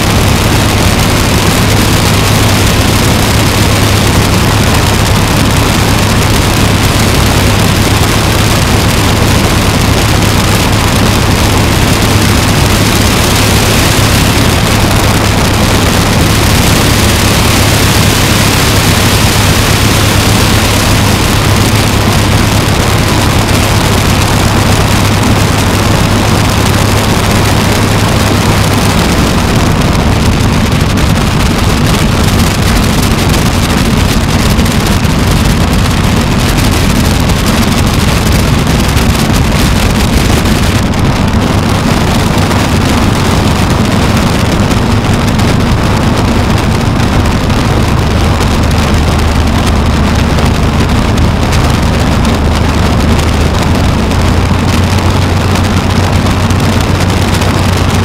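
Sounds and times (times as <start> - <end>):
light aircraft engine in flight: 0.0 - 58.0
wind rush: 0.0 - 58.0.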